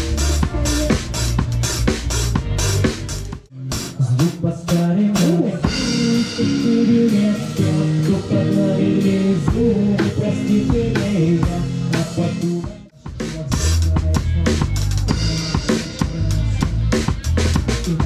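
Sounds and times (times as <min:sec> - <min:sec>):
drum kit played live: 0:00.0 - 0:18.0
pitched instruments music: 0:00.0 - 0:18.0.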